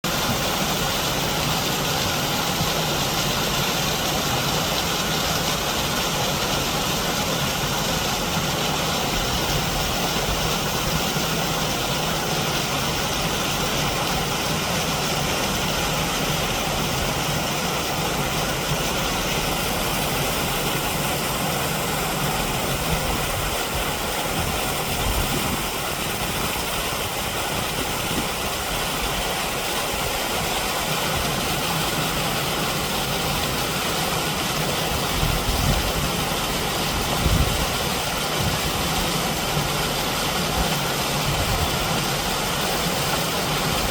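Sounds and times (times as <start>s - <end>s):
mountain stream water rushing: 0.0s - 43.9s.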